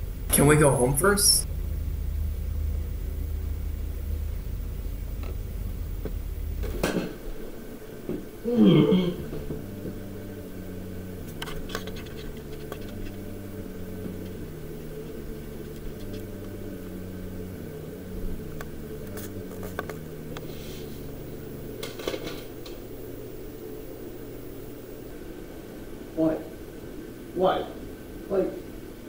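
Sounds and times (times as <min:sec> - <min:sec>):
low drone music: 0:00.0 - 0:27.3.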